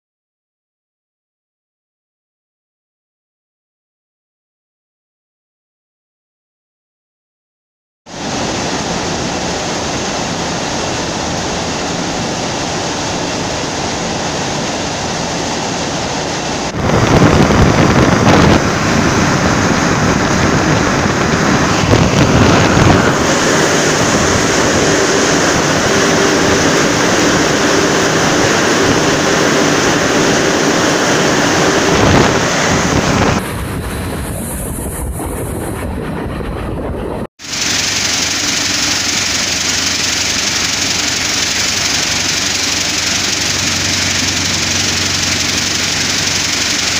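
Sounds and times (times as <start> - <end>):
air blowers rushing: 8.1 - 46.9
conveyor machinery: 8.2 - 46.9.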